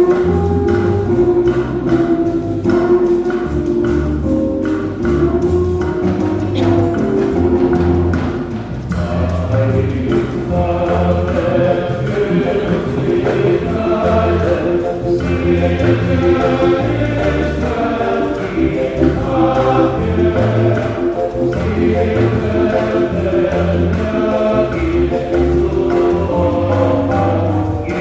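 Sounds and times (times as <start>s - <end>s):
choir singing with accompaniment: 0.0s - 28.0s.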